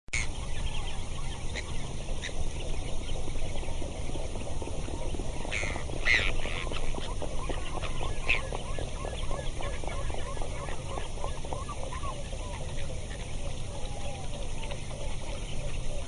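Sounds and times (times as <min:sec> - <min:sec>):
waterfowl calling: 0:00.2 - 0:16.0
low rumble: 0:00.3 - 0:16.0.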